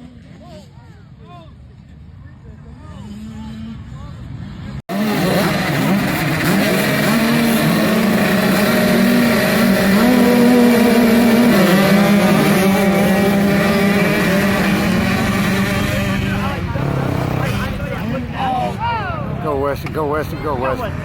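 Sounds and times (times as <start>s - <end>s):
dirt bike engines revving: 1.6s - 21.0s.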